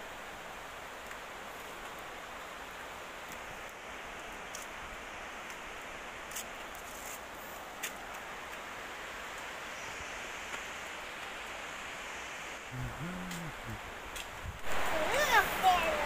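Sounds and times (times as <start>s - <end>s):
distant waterfall rushing: 0.0s - 16.0s.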